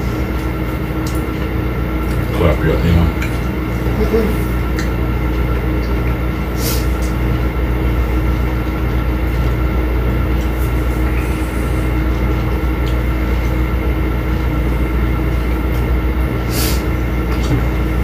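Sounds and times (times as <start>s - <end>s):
low mechanical hum and rumble: 0.0s - 18.0s.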